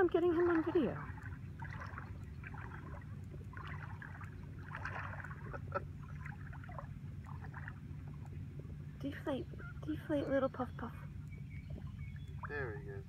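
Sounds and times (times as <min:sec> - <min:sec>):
steady low hum: 0:00.0 - 0:13.0
water splashing and lapping: 0:00.0 - 0:13.0.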